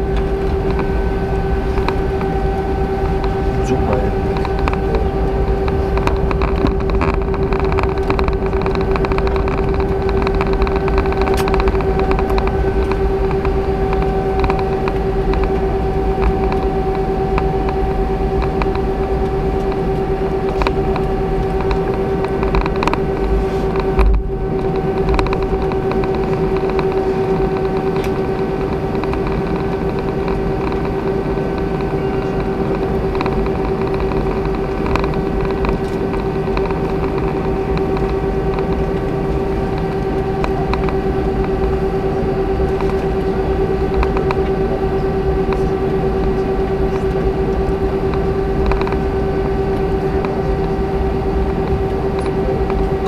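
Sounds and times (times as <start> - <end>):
aircraft cabin engine hum: 0.0 - 53.0.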